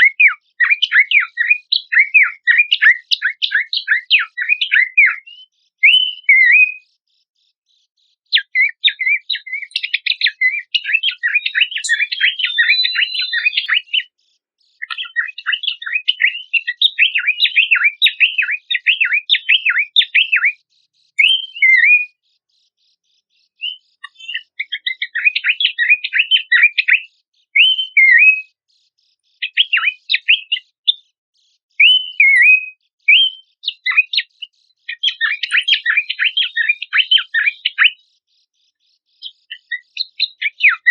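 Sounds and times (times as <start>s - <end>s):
whistled bird notes: 0.0s - 6.8s, 8.4s - 14.2s, 14.8s - 22.2s, 23.5s - 28.6s, 29.4s - 31.0s, 31.8s - 38.2s, 39.0s - 40.9s
bird chattering and warbling: 0.0s - 7.4s, 8.0s - 40.9s.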